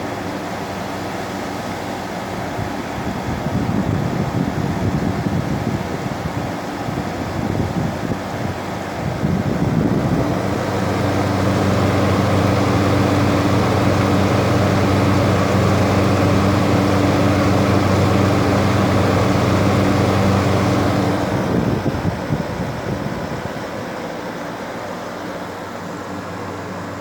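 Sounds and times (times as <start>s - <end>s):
compressor hum: 0.0s - 27.0s
condenser fan rushing: 0.0s - 27.0s.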